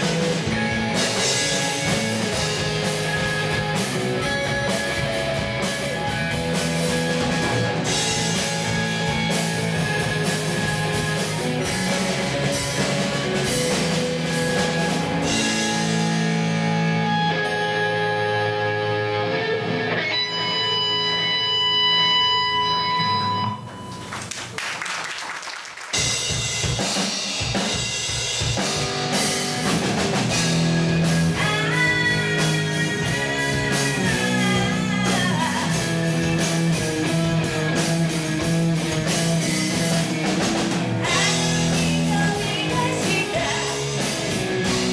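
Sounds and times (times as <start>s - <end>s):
electric bass: 0.0s - 24.1s, 26.0s - 44.9s
electric guitar: 0.0s - 24.2s, 27.5s - 44.9s
drum kit: 0.0s - 24.8s, 25.5s - 44.9s.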